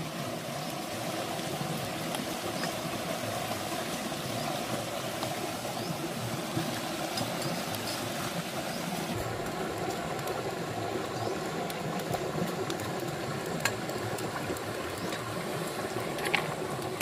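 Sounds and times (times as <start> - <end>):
river water over rocks: 0.0 - 17.0.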